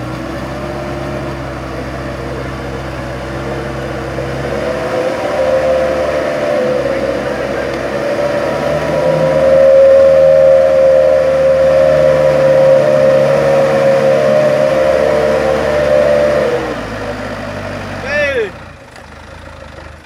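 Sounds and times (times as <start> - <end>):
diesel truck engine revving: 0.0 - 20.0.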